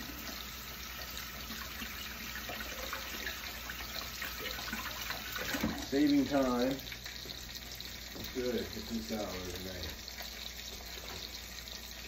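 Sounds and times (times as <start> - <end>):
steaks sizzling in a frying pan: 0.0 - 12.0.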